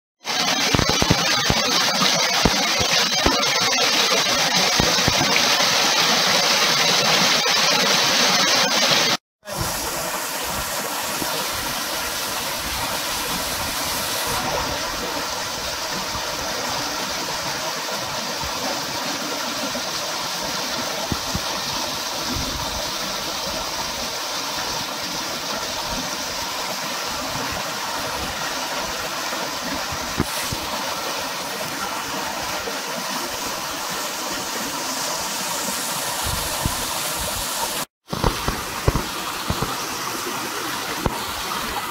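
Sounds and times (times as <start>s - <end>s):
waterfall pouring into pool: 0.3s - 41.9s.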